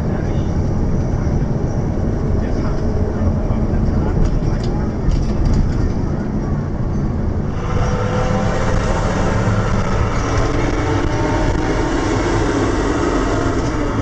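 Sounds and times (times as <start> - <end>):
coach engine and road noise: 0.0 - 14.0.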